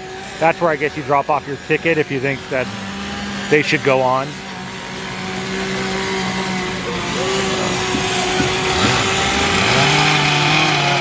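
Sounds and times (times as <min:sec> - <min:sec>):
chainsaws running: 0:00.0 - 0:11.0
lower-pitched chainsaw: 0:00.0 - 0:11.0.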